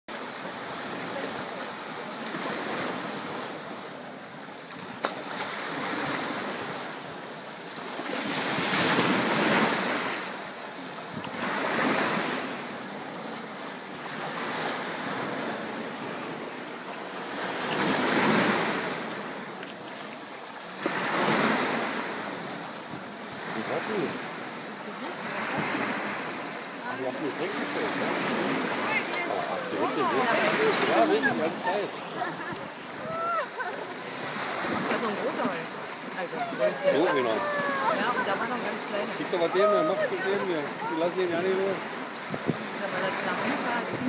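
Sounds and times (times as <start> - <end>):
small waves washing on shore: 0.1 - 44.0.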